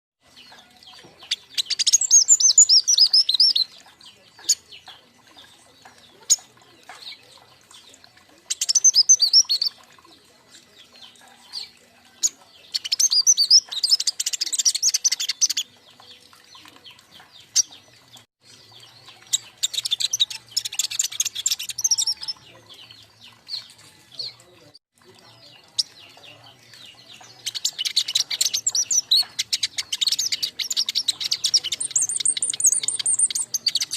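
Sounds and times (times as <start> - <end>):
scattered bird chirps and calls: 0.2 - 33.9
songbirds singing rapid chirps: 0.2 - 33.9.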